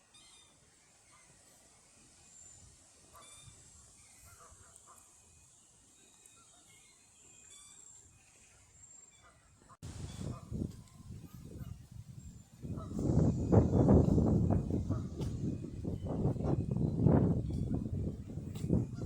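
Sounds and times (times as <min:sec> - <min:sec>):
faint bird calls and chirps: 0:00.0 - 0:19.0.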